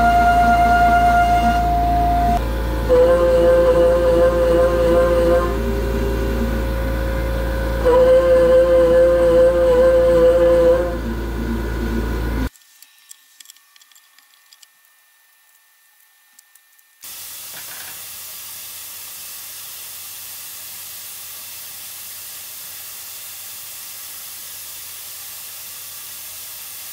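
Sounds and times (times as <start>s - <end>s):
steady hiss with low hum: 0.0s - 26.9s.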